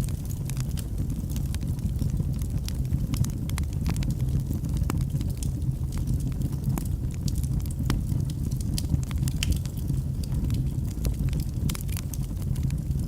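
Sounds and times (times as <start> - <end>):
fire crackling and popping: 0.0 - 13.0
steady low rumble: 0.0 - 13.0.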